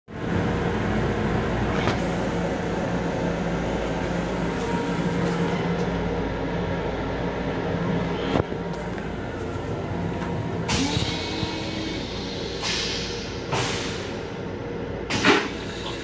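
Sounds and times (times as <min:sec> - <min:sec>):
railcar interior rumble and hiss: 0:00.1 - 0:16.0.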